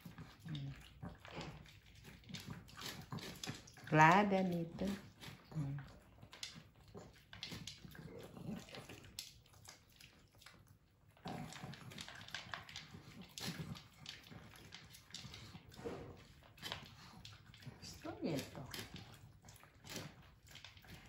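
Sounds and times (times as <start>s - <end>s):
dog gulping food: 0.0s - 21.0s
dogs crunching dry kibble: 0.0s - 21.0s.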